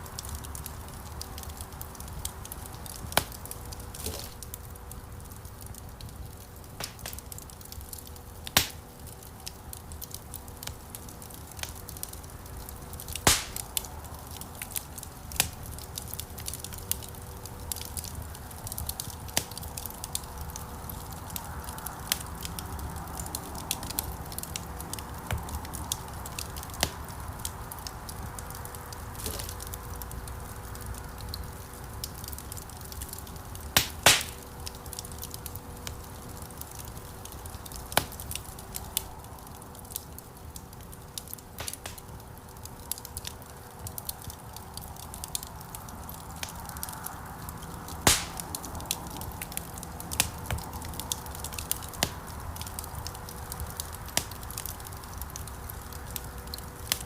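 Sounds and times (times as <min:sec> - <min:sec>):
fire crackles and pops: 0:00.0 - 0:57.0
low flame rumble: 0:00.0 - 0:57.0
loud fire pops: 0:00.2 - 0:57.0.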